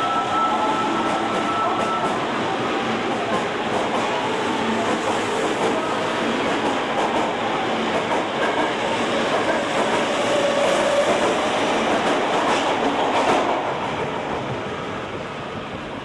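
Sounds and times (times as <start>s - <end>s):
train cars rushing past: 0.0s - 16.0s.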